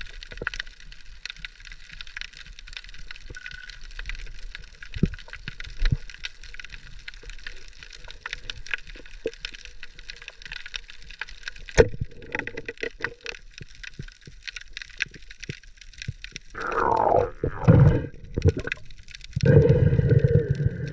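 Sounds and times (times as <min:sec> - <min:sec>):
underwater reef crackle: 0:00.0 - 0:20.9.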